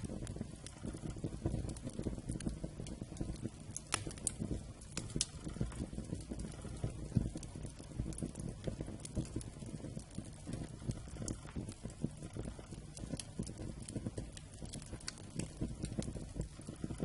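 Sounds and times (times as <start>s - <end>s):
campfire flames rumbling: 0.0s - 17.0s
fire crackling and popping: 0.0s - 17.0s.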